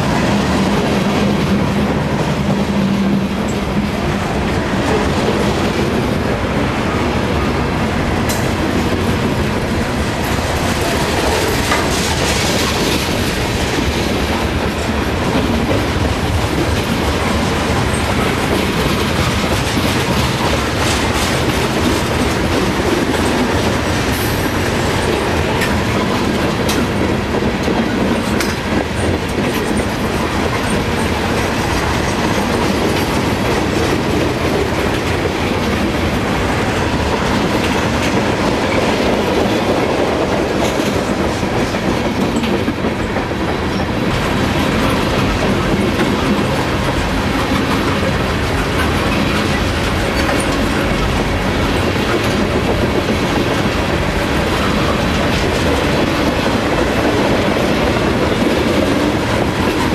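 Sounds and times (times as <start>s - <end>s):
steel train wheels on rails: 0.0s - 59.9s.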